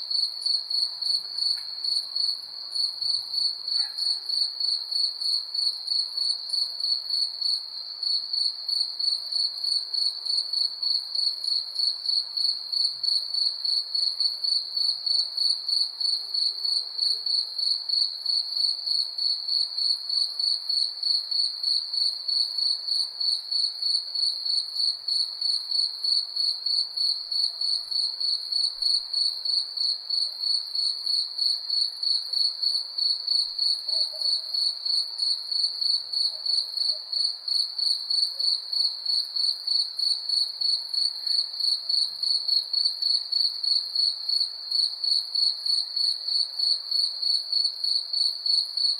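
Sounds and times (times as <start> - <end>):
crickets chirping: 0.1 - 48.9.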